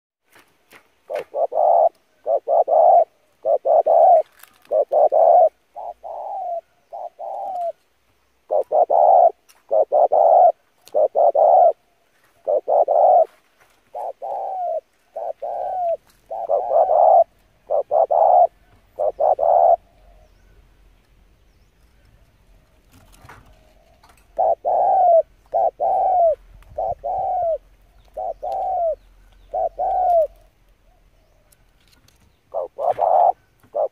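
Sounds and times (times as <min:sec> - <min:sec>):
dove cooing: 0:01.1 - 0:07.8, 0:08.4 - 0:20.4, 0:22.5 - 0:31.6, 0:32.4 - 0:33.9.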